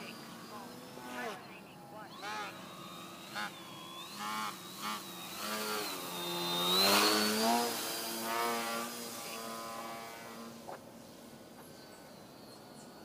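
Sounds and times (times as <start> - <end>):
model plane motor buzzing: 0.0 - 13.0.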